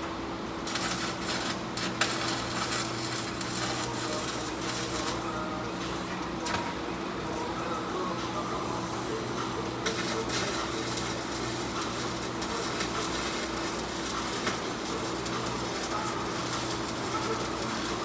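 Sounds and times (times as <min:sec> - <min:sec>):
arc welding crackle: 0:00.0 - 0:07.3, 0:09.1 - 0:18.0.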